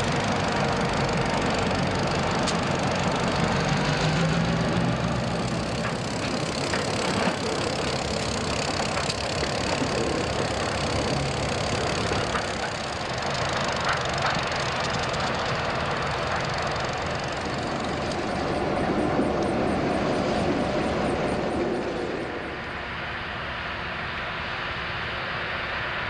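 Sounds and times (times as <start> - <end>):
diesel locomotive engine running: 0.0 - 26.0.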